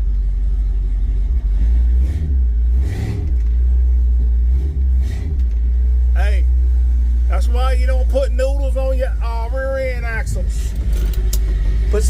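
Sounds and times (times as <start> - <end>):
truck engine rumbling accelerating: 0.0 - 12.0.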